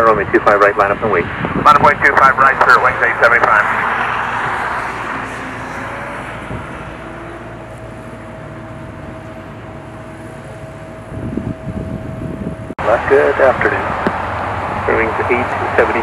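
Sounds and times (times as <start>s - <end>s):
jet engine rumble: 0.0s - 16.0s
thin steady whine: 0.0s - 16.0s.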